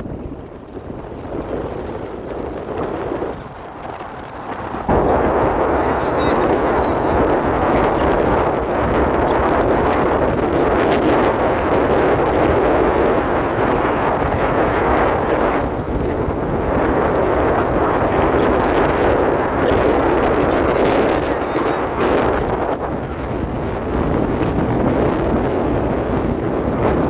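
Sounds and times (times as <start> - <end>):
wind noise: 0.0 - 27.0.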